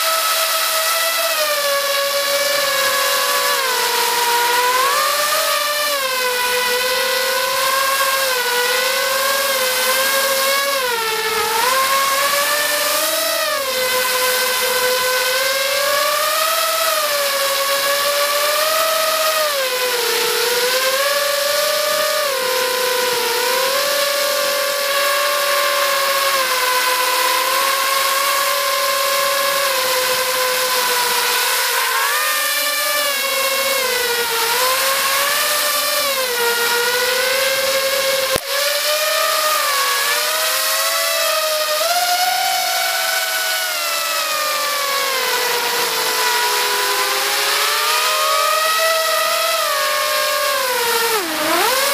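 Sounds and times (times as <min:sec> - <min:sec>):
quadcopter motors whining: 0:00.0 - 0:51.9.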